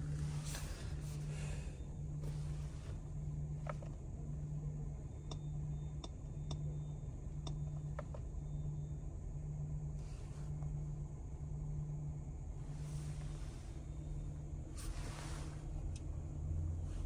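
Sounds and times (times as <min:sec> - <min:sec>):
low hum in car cabin: 0:00.0 - 0:17.0.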